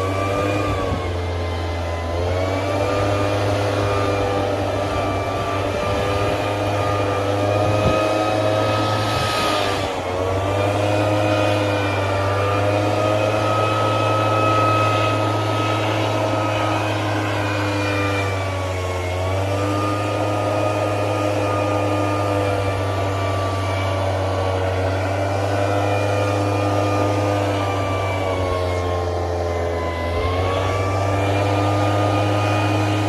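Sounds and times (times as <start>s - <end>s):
motor running with low hum: 0.0s - 33.0s.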